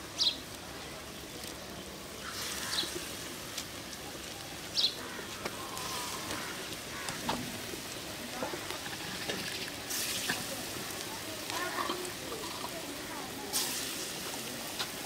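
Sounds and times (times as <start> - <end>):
hot oil sizzling in a wok: 0.0 - 15.0.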